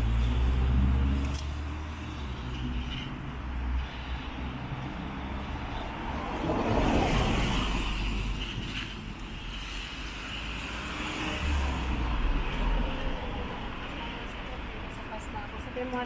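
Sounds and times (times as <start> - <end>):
car passing: 0.0 - 15.7.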